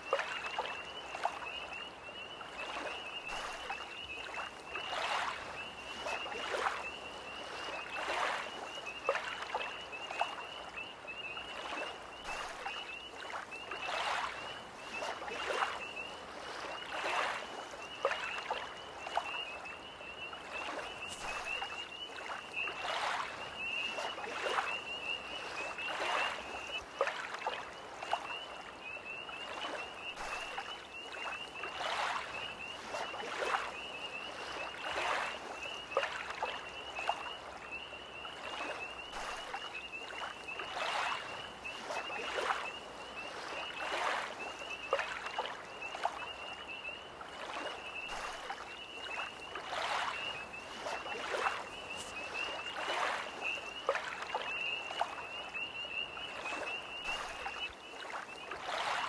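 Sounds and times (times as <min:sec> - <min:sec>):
lake waves lapping: 0:00.0 - 0:59.0
tree frogs trilling: 0:00.0 - 0:59.0.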